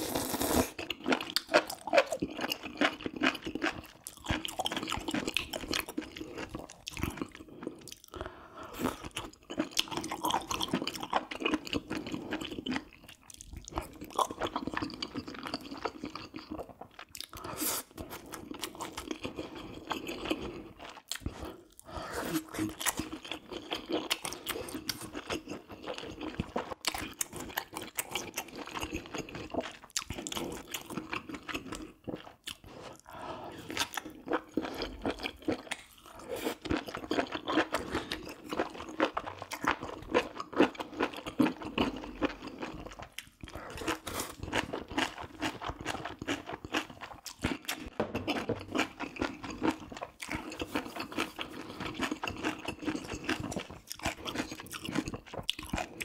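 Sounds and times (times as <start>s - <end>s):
person chewing and crunching: 0.0s - 56.0s.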